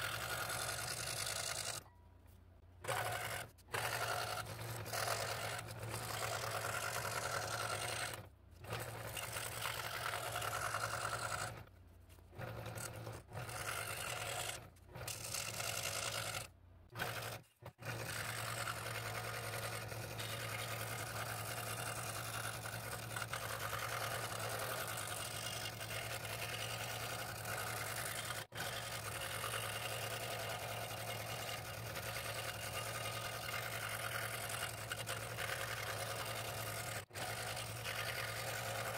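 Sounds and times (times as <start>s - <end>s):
scroll saw cutting wood: 0.0s - 1.9s, 2.8s - 38.9s
motor hum: 0.0s - 2.0s, 2.6s - 38.9s.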